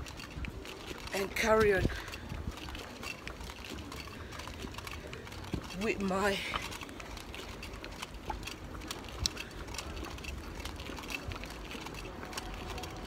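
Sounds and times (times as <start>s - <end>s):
low steady street rumble: 0.0s - 13.0s.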